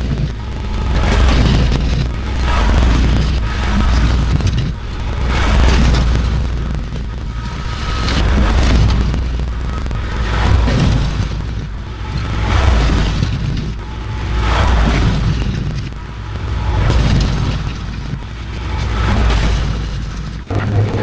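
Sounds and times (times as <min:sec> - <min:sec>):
machine engine running: 0:00.0 - 0:21.0.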